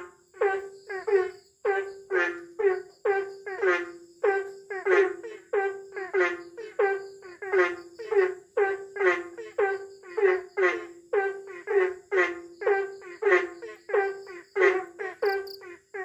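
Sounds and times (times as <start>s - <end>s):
toad croaking: 0.0s - 16.0s.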